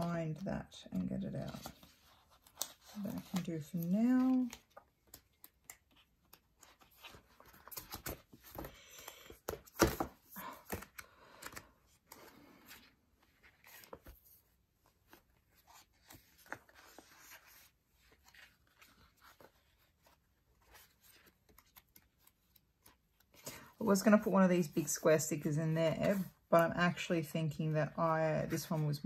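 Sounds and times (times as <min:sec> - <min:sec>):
paper pages rustling: 0:00.0 - 0:25.2.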